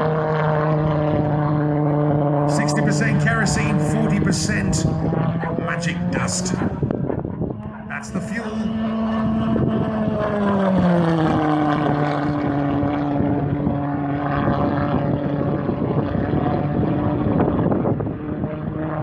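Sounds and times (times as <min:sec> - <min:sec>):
model jet engine flying past: 0:00.0 - 0:19.0.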